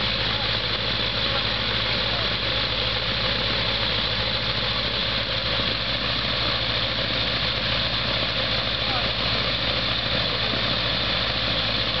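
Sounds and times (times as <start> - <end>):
aircraft engine idling: 0.0 - 12.0.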